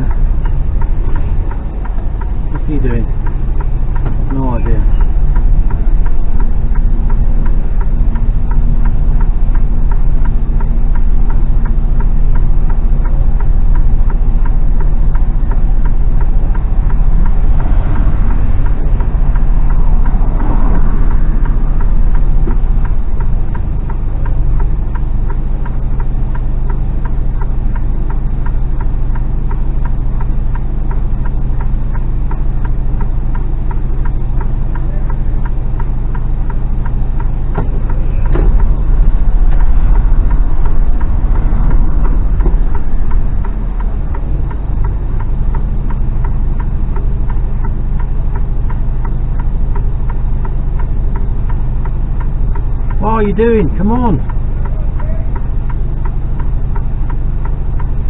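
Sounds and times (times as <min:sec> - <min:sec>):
fast even ticking: 0:00.0 - 0:58.0
lorry diesel engine running: 0:00.0 - 0:58.0.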